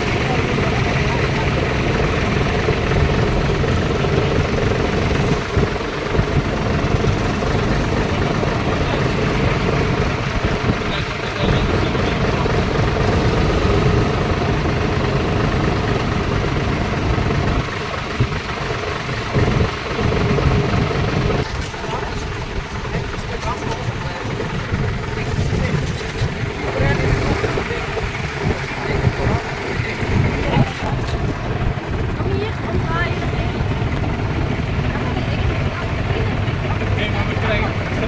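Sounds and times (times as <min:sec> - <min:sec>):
tractor engines droning: 0:00.0 - 0:38.0.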